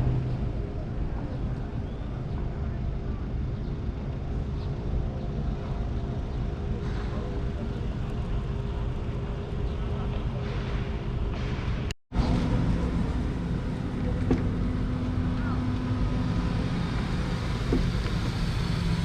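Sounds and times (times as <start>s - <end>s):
car and motorcycle engines: 0.0s - 19.0s.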